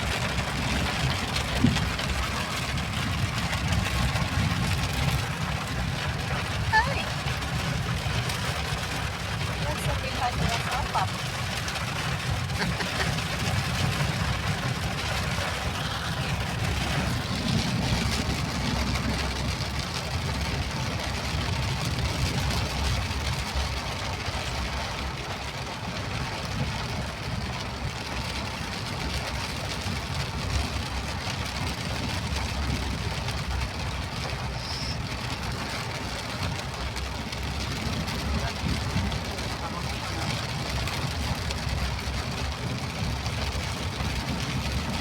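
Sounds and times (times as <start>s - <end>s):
continuous low rumble: 0.0s - 45.0s
rain falling: 0.0s - 45.0s.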